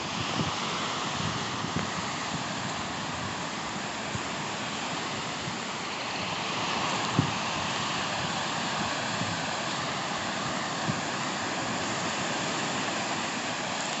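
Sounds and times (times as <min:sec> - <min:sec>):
sea surf and wind rushing: 0:00.0 - 0:14.0.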